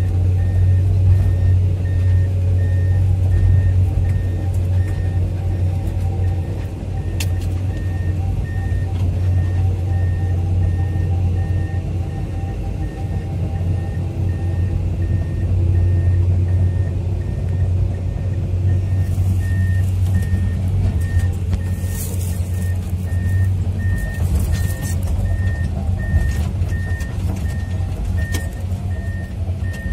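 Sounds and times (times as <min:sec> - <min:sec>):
diesel excavator engine running: 0:00.0 - 0:29.9
travel alarm beeping: 0:00.0 - 0:29.9.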